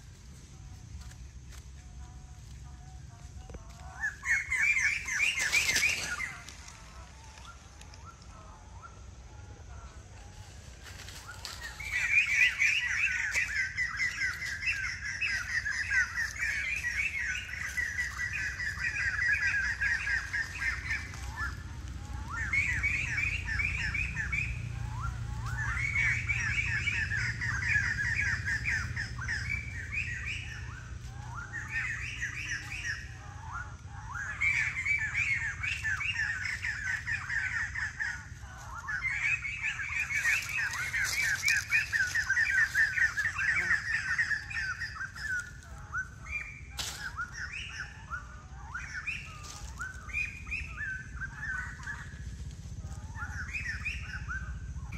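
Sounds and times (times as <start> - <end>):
bird calling in rapid runs: 0.0 - 54.9.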